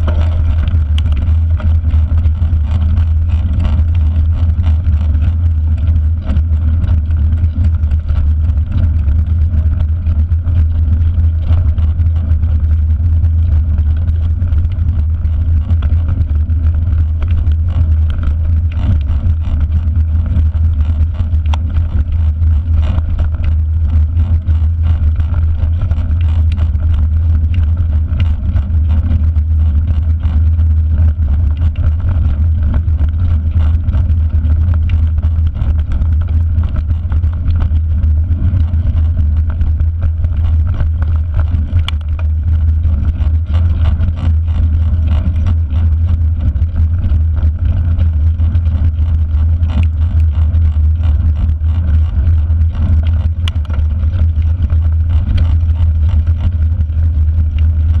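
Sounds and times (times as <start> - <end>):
bike rattling and clicking: 0.0 - 58.0
bike tyres on gravel: 0.0 - 58.0
wind on microphone: 0.0 - 58.0.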